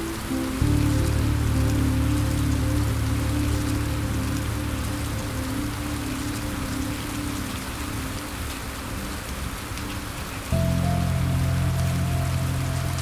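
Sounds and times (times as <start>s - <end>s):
rain falling on a surface: 0.0s - 13.0s
soft low music chords: 0.0s - 13.0s.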